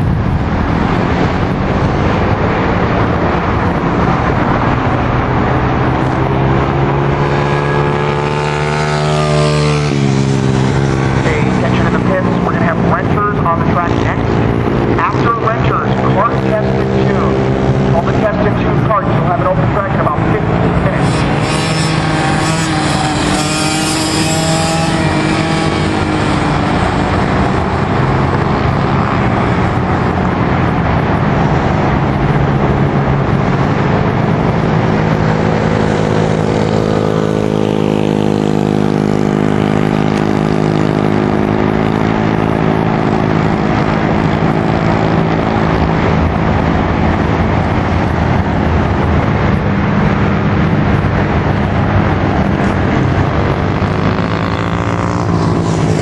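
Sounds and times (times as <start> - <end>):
mini motorcycle engines racing: 0.0 - 56.0.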